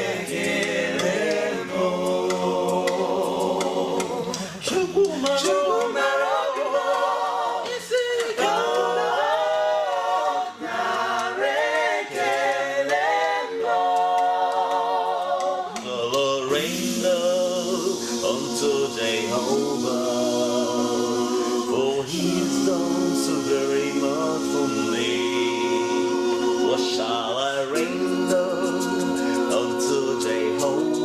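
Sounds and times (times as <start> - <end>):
a cappella group singing gospel: 0.0 - 31.0.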